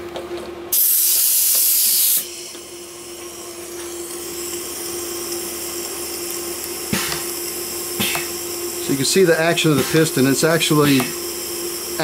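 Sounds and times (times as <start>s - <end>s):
compressed air hissing: 0.7s - 12.0s.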